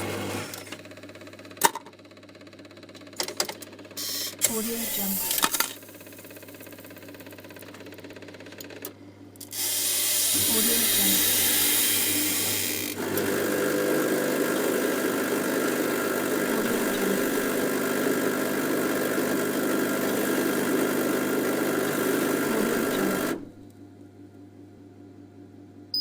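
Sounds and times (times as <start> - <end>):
coffee machine humming and rattling: 0.0 - 23.7.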